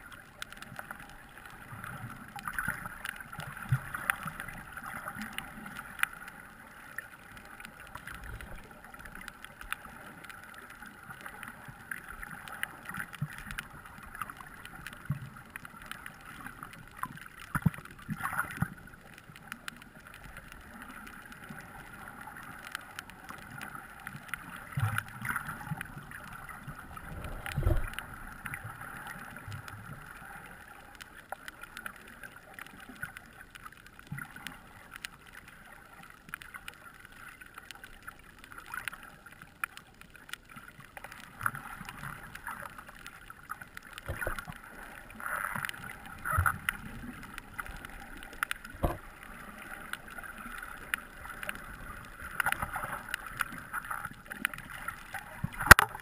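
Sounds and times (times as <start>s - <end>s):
underwater rush of water: 0.0s - 56.0s.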